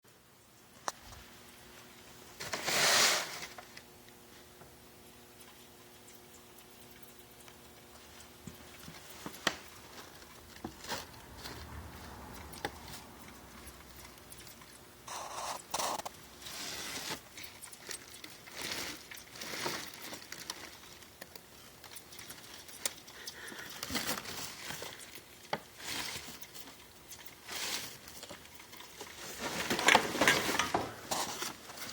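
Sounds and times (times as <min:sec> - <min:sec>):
faint low hum: 0:03.3 - 0:31.9.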